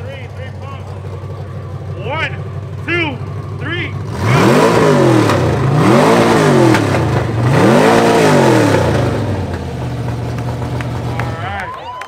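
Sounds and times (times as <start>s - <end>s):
engine revving and idling: 0.0s - 11.8s.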